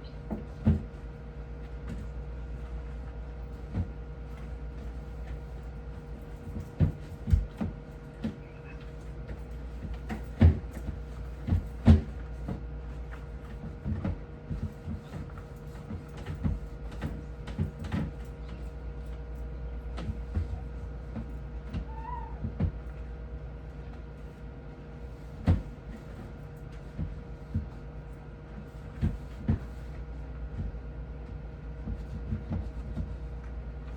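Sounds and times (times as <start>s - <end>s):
electrical hum: 0.0s - 33.9s.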